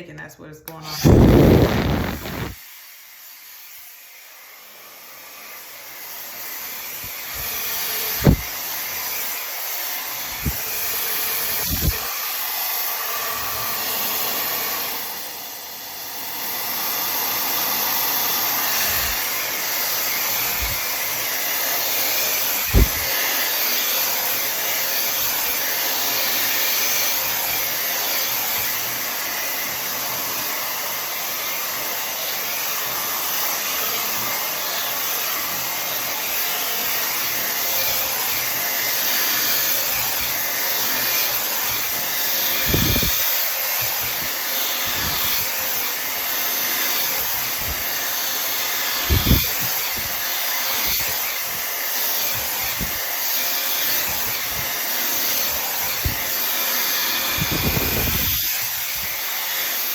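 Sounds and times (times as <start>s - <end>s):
hair dryer blowing: 0.1s - 59.9s.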